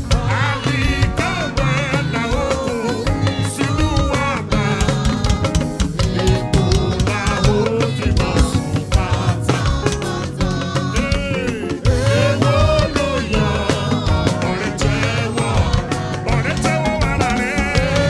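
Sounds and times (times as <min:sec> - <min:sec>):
person singing: 0:00.0 - 0:18.0
steady drum beat: 0:00.0 - 0:18.0.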